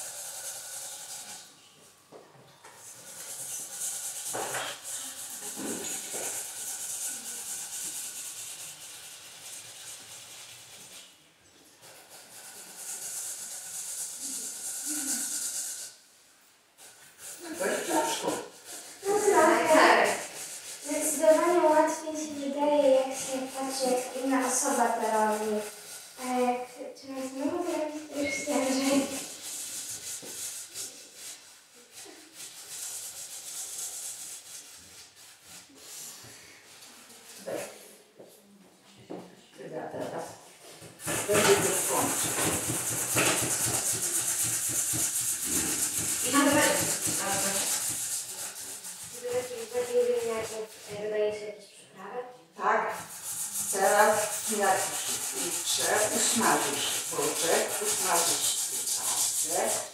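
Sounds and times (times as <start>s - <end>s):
potatoes grated on grater: 0.0s - 1.5s, 2.8s - 11.0s, 11.8s - 16.0s, 16.8s - 36.2s, 41.0s - 51.1s, 52.6s - 59.9s.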